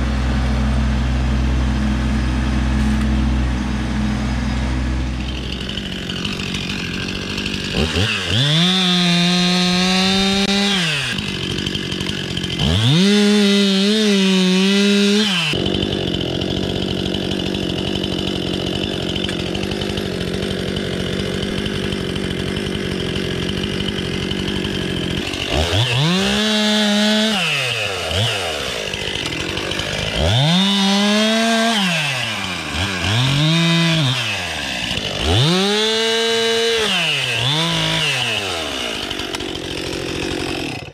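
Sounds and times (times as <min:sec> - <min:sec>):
chainsaw idling: 0:00.0 - 0:40.9
chainsaw revving to full throttle: 0:00.0 - 0:40.9.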